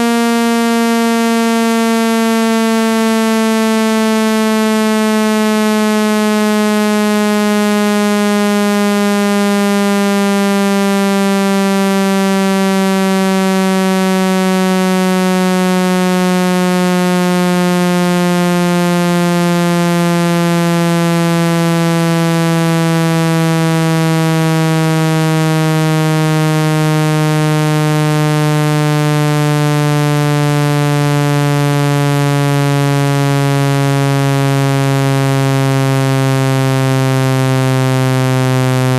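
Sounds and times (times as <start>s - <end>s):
buzzy electronic tone gliding down: 0.0s - 38.9s.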